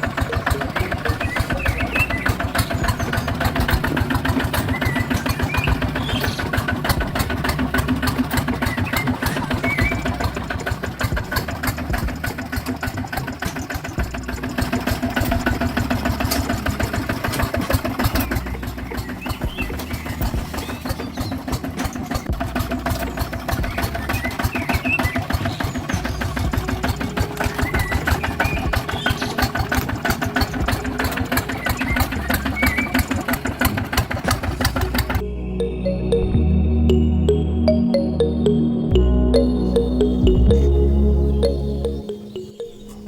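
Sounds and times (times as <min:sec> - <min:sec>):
tractor engine chugging: 0:00.0 - 0:36.3.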